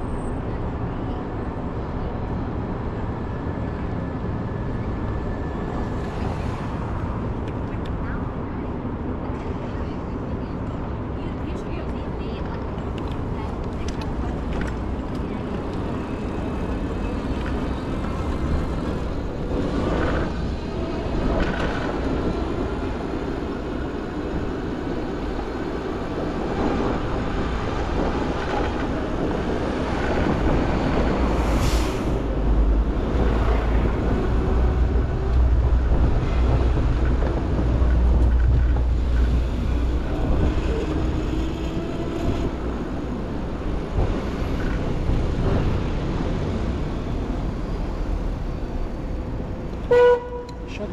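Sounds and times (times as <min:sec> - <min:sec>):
low traffic rumble: 0:00.0 - 0:50.9
passing vehicles: 0:00.0 - 0:50.9.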